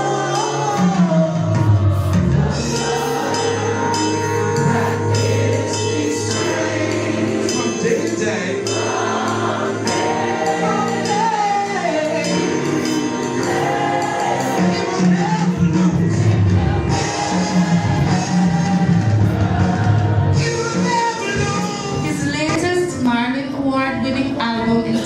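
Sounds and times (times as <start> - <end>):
gospel singing: 0.0 - 22.5.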